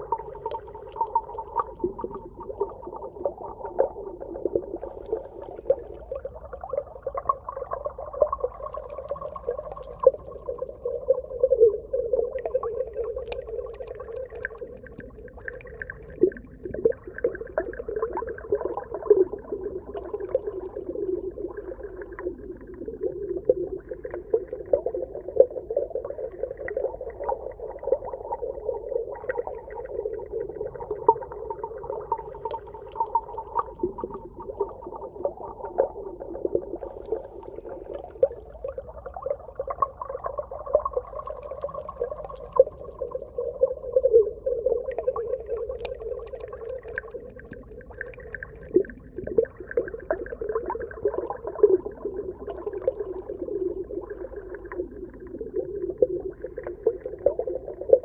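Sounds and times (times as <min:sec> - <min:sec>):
underwater clicks and crackles: 0:00.0 - 0:58.0.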